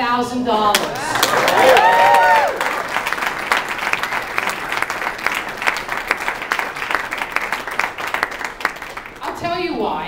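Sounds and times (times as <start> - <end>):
crowd applauding: 0.7 - 9.4.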